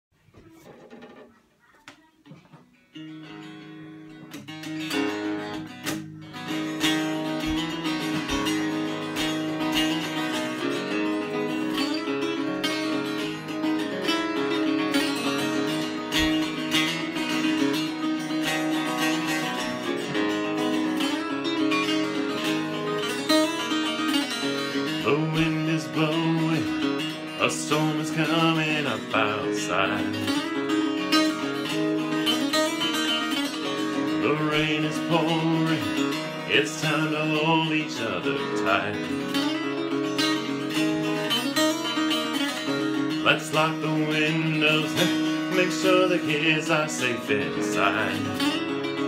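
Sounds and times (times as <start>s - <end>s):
acoustic guitar strumming chords: 0.4s - 49.0s.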